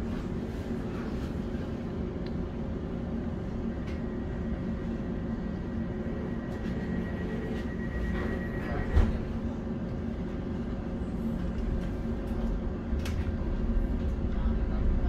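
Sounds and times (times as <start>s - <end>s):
train interior hum and rumble: 0.0s - 15.0s.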